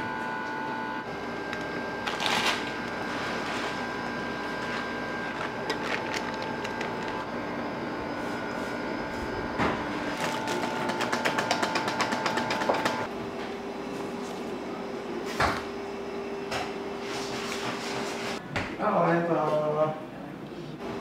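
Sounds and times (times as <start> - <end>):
printer whine: 0.0 - 18.4.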